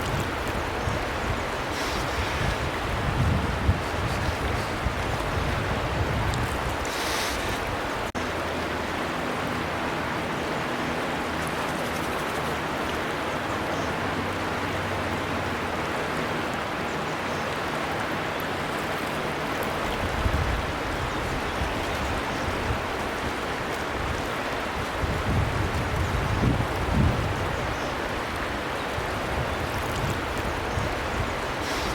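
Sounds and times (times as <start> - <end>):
river water rushing: 0.0 - 31.9.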